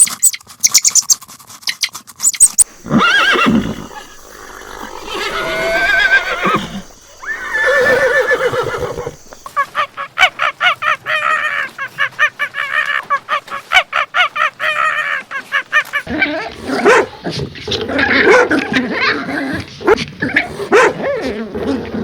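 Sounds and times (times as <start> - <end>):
farm animal calling: 0.0 - 22.0.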